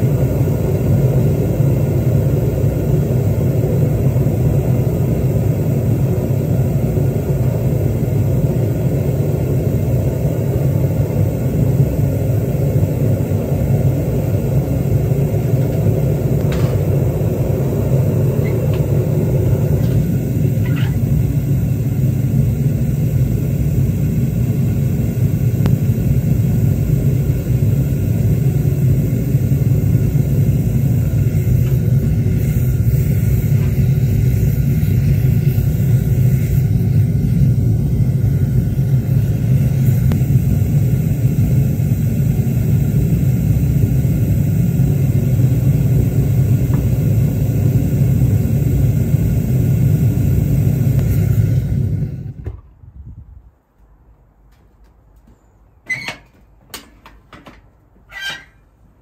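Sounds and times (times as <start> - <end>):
gas furnace burner roaring: 0.0 - 53.7, 54.3 - 59.0.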